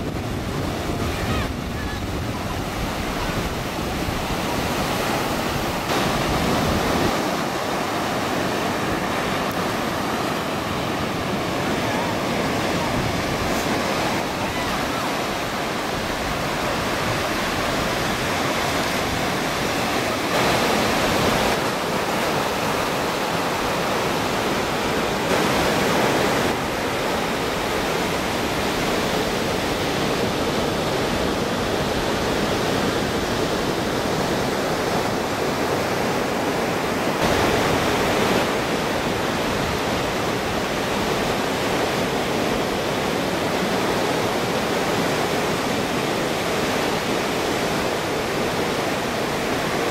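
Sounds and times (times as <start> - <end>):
ocean surf breaking: 0.0 - 49.9.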